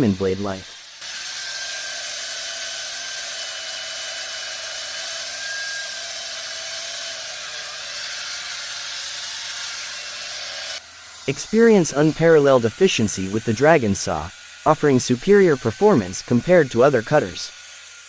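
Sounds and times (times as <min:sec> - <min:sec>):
saw grinding through masonry: 0:00.0 - 0:18.0.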